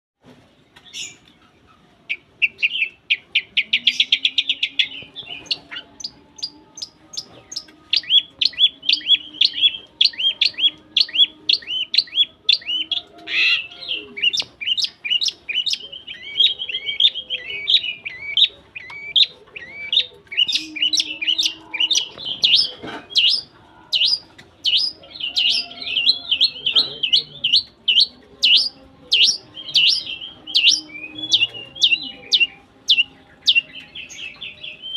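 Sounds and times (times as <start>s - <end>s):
bird chirping and trilling: 2.1s - 34.9s.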